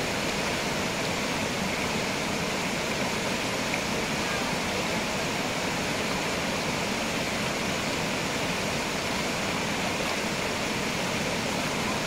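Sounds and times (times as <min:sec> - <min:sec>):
water rushing over stones: 0:00.0 - 0:12.0.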